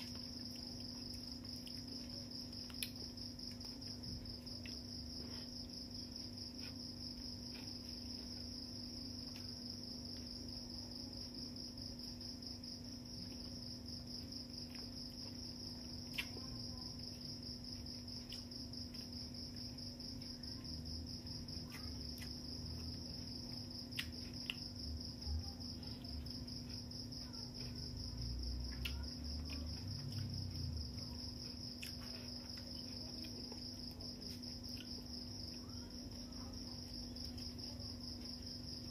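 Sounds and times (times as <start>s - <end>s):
cricket trilling: 0.0s - 38.9s.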